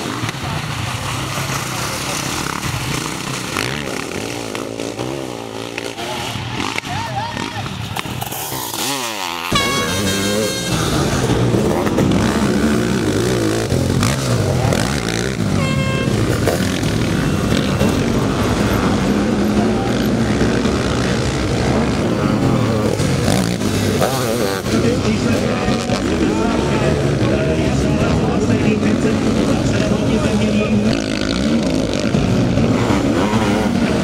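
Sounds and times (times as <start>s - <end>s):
motocross engines revving: 0.0s - 34.0s.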